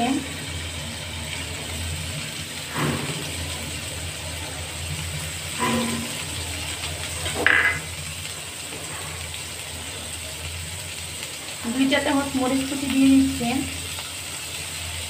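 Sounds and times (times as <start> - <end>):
onions sizzling in a pan: 0.0 - 15.0.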